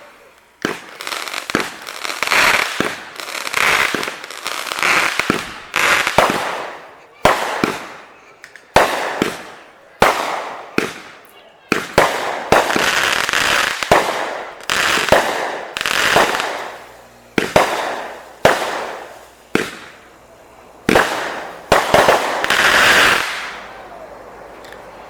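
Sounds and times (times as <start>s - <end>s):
fireworks bangs: 0.0s - 25.0s
fireworks crackling hiss: 0.0s - 25.0s.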